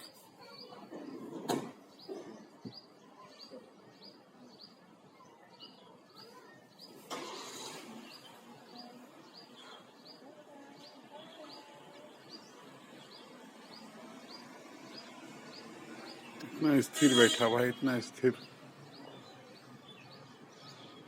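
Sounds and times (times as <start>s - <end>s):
background noise: 0.0s - 21.0s.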